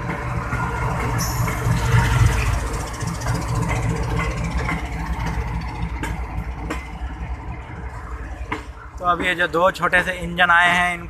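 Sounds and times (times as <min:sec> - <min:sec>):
locomotive engine rumble: 0:00.0 - 0:11.0
train wheels clicking on track: 0:00.0 - 0:11.0.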